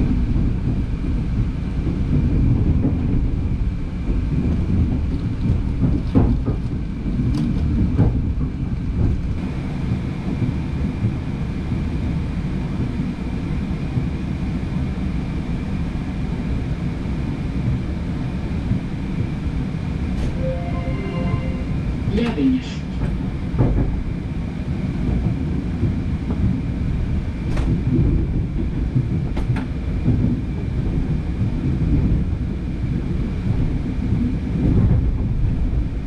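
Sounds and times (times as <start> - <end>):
train rumbling on track: 0.0 - 36.0.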